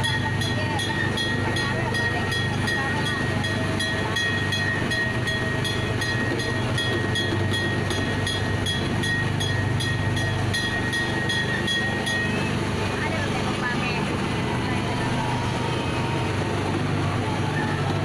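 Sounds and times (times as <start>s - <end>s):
train motor hum and whine: 0.0s - 18.0s.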